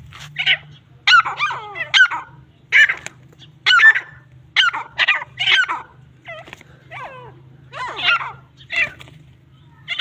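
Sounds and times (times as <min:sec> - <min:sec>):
francolins giving harsh calls: 0:00.2 - 0:10.0.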